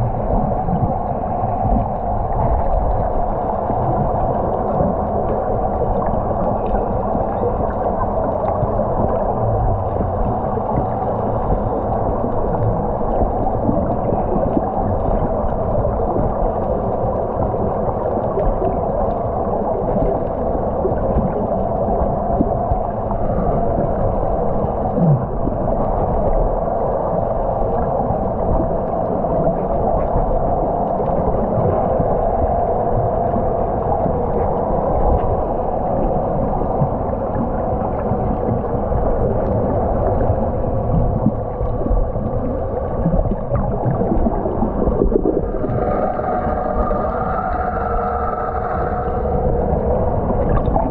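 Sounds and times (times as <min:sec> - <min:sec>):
faint steady hum: 0:00.0 - 0:50.9
muffled underwater rush: 0:00.0 - 0:50.9.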